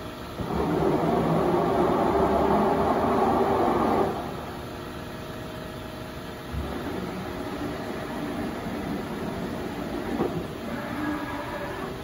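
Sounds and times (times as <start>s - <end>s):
heavy machinery rumbling: 0.4s - 4.9s, 6.5s - 12.0s.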